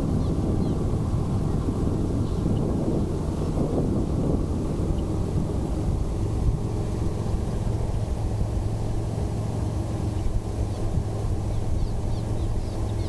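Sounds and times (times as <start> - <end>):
low hum: 0.0 - 13.0
vehicle engine idling: 0.0 - 13.0.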